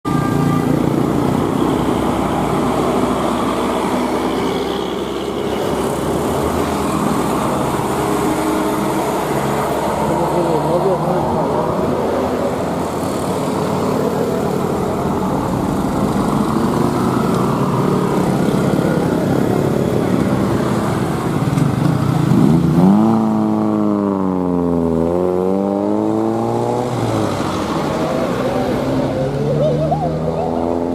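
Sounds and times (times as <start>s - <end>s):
roadside traffic noise: 0.0s - 30.9s
engine revving: 0.1s - 30.9s.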